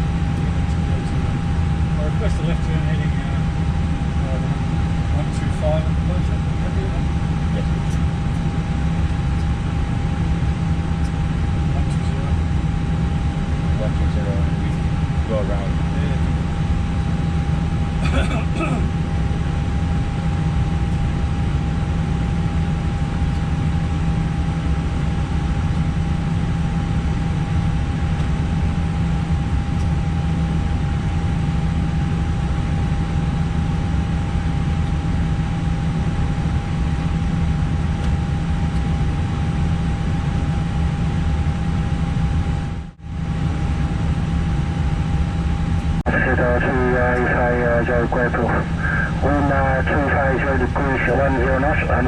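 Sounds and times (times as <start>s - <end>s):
cockpit low hum: 0.0s - 52.0s.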